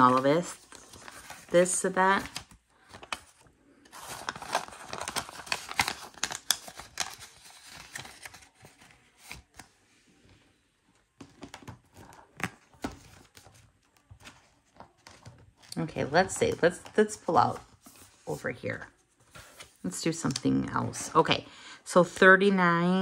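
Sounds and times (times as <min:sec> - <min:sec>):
paper rustling and crinkling: 0:00.0 - 0:10.4, 0:11.1 - 0:19.9.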